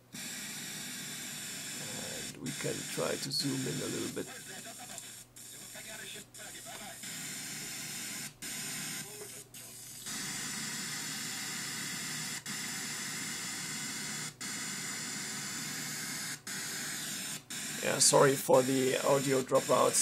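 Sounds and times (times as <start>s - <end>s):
radio hiss: 0.0s - 20.0s.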